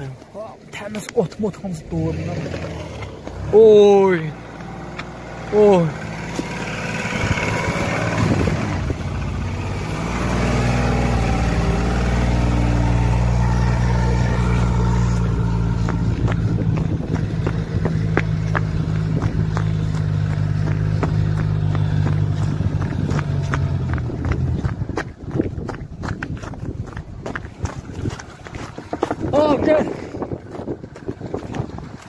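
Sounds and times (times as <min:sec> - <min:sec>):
car engine revving: 0:01.7 - 0:32.0.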